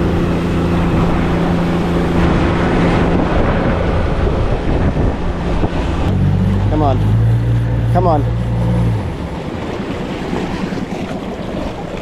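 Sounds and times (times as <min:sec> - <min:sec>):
outboard motor running: 0:00.0 - 0:12.0
water rushing past hull: 0:00.0 - 0:12.0
wind buffeting microphone: 0:00.0 - 0:12.0.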